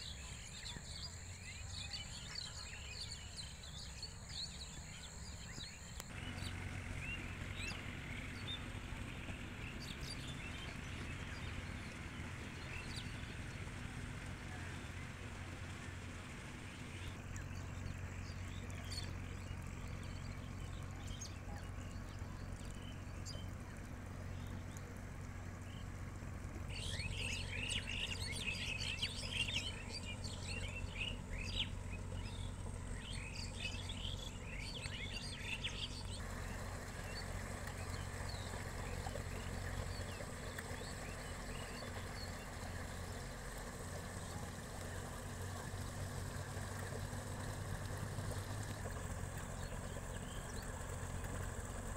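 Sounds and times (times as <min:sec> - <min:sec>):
small birds chirping: 0:00.0 - 0:51.9
steady low hum: 0:00.0 - 0:51.9.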